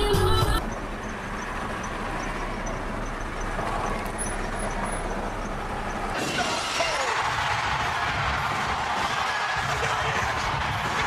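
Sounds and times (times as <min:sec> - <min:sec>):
traffic and engine rumble: 0:00.0 - 0:11.0.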